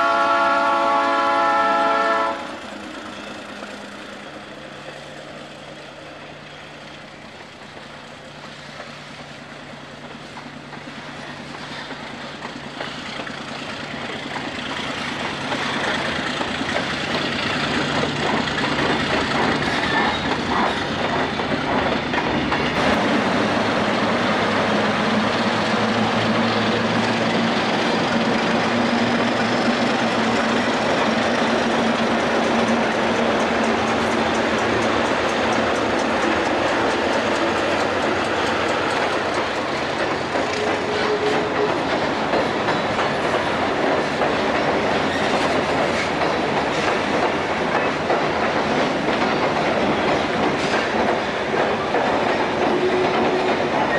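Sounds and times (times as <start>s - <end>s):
diesel locomotive engine drone: 0.0s - 53.9s
railcar wheels clattering on rails: 0.0s - 53.9s.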